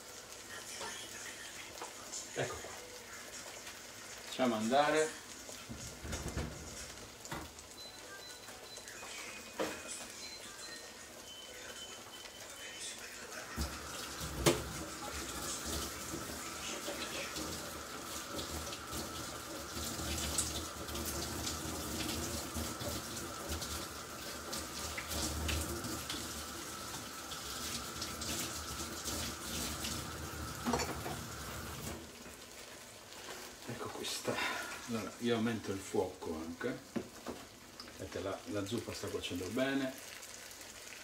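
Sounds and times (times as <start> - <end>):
tomatoes sizzling in frying pan: 0.0 - 41.0.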